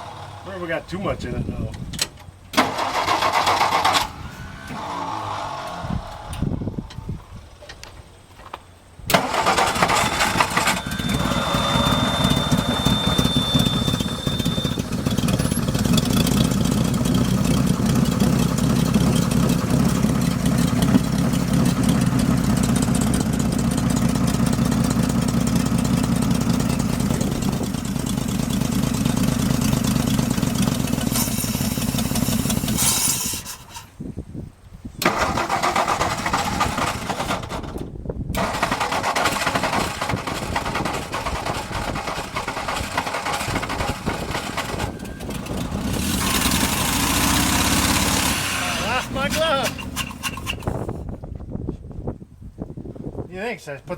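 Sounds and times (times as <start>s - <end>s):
truck engine starting and running: 0.0s - 51.6s.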